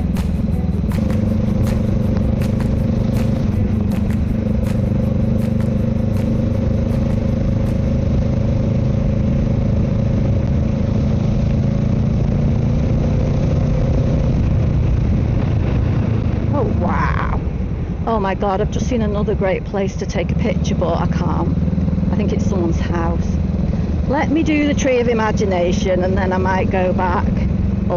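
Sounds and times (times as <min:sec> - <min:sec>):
motorcycle engine running: 0:00.0 - 0:16.8, 0:20.1 - 0:27.9.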